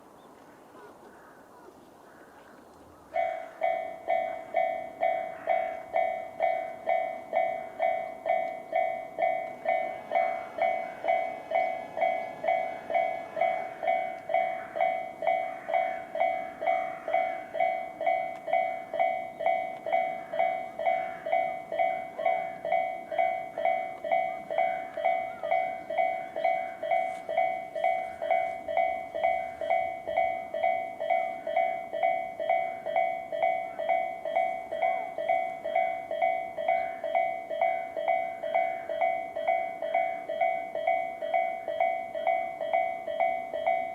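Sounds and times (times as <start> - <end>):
level crossing warning bells: 3.1 - 43.9.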